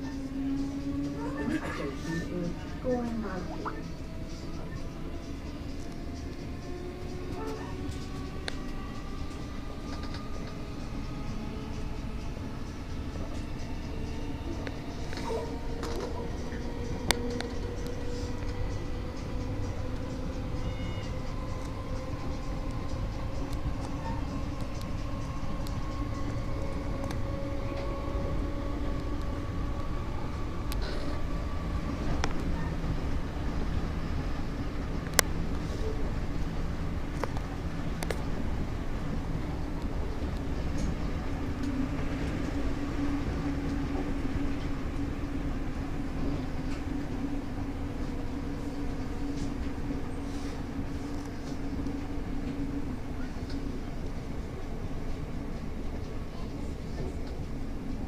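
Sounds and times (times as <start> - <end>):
constant hum: 0.0 - 58.0
train rumble: 0.0 - 58.0.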